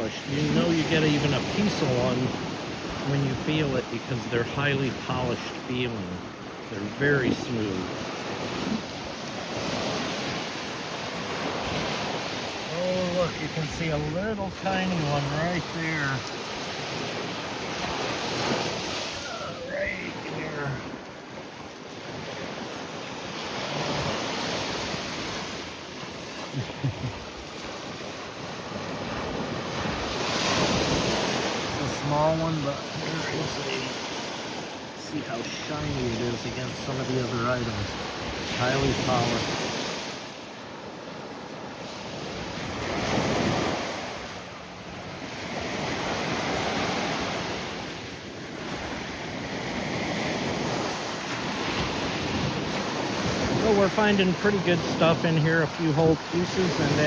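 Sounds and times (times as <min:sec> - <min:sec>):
small surf washing on beach: 0:00.0 - 0:57.0.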